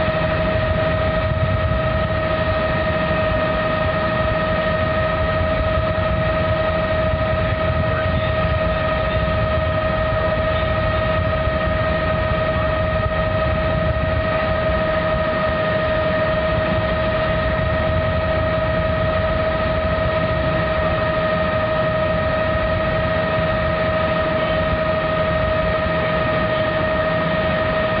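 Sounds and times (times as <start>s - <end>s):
helicopter in flight: 0.0s - 28.0s.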